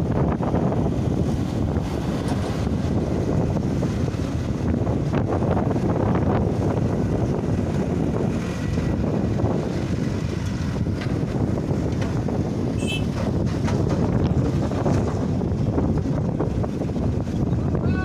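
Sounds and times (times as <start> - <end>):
construction machinery rumbling: 0.0 - 18.0
wind buffeting microphone: 0.0 - 18.0.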